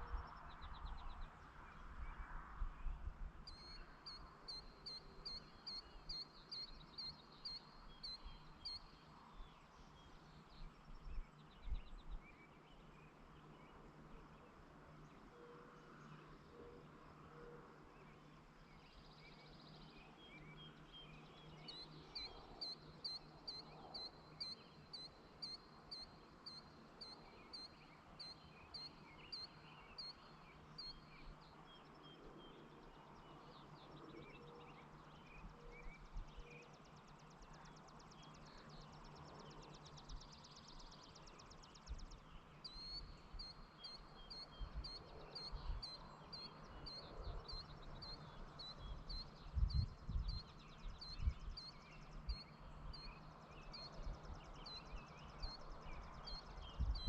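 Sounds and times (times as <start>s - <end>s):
faint low hum: 0.0s - 57.0s
bird chirping: 2.8s - 14.4s, 15.0s - 57.0s.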